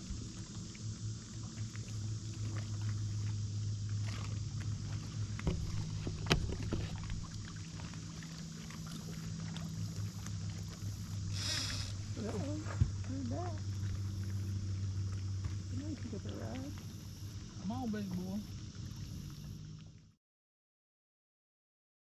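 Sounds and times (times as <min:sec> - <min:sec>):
boat motor humming: 0:00.0 - 0:20.2.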